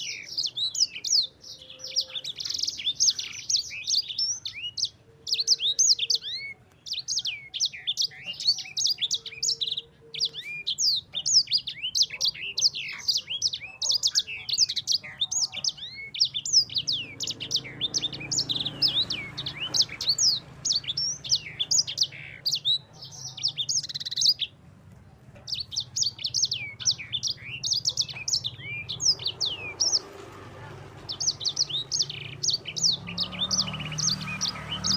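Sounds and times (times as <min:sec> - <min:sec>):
finch singing rapid chirps: 0:00.0 - 0:24.6, 0:25.4 - 0:34.9.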